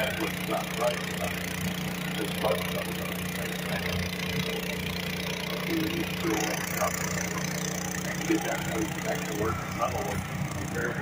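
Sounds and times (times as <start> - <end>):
tractor engine under heavy load: 0.0 - 11.0.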